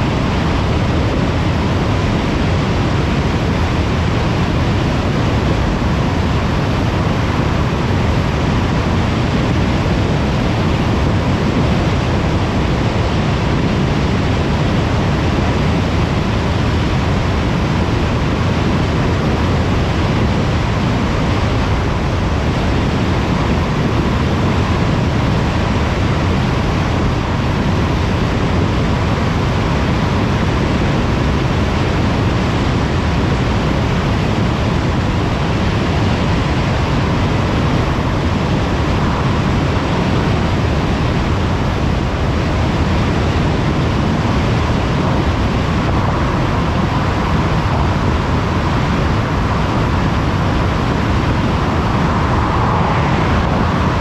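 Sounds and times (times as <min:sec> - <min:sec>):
tyre and wind road noise: 0:00.0 - 0:54.0.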